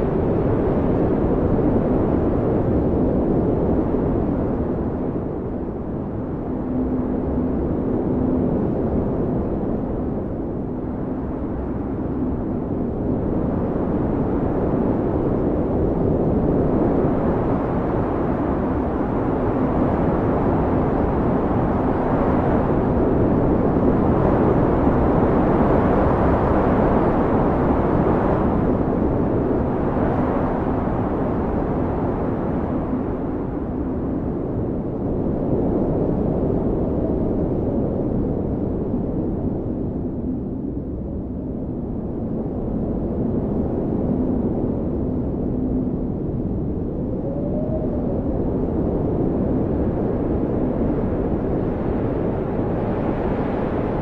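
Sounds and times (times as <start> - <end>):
blizzard wind blowing: 0.0 - 54.0
faint low howl: 0.0 - 54.0.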